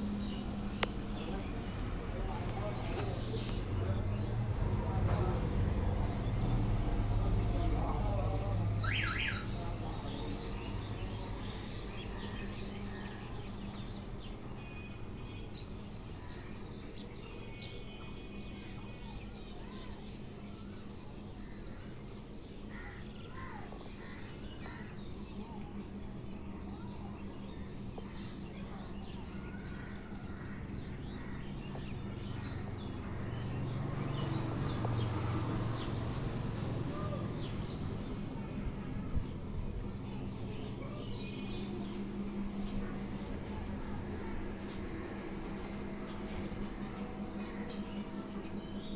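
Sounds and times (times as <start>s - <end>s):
cage birds chirping and calling: 0.0s - 48.9s.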